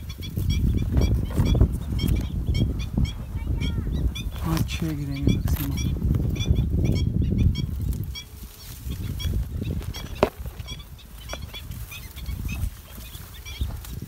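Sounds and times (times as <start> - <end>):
birds calling sharp notes: 0.0 - 14.0
wind rumbling on microphone: 0.0 - 14.0.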